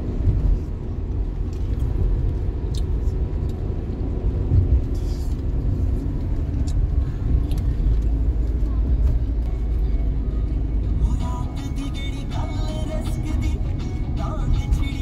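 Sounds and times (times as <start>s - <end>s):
car interior rumble: 0.0s - 15.0s.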